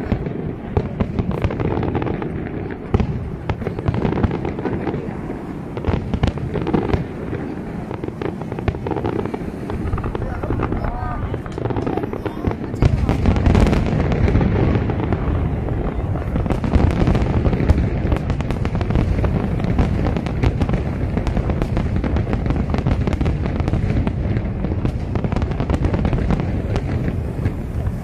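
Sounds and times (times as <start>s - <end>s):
fireworks booming: 0.0s - 28.0s
fireworks crackling: 0.0s - 28.0s.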